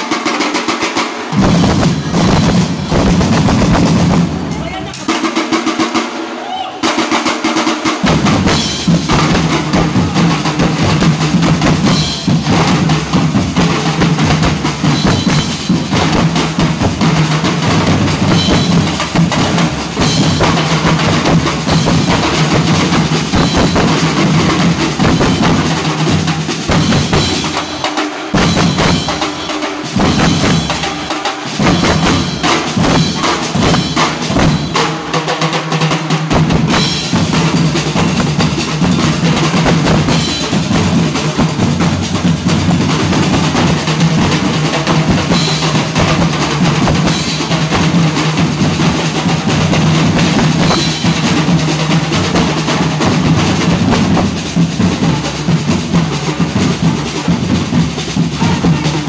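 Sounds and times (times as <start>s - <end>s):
small tom drums: 0.0s - 59.0s
snare drums: 0.0s - 59.0s
bass drums: 1.3s - 5.1s, 8.0s - 35.1s, 36.3s - 59.0s
cymbal: 8.0s - 35.4s, 36.2s - 59.0s.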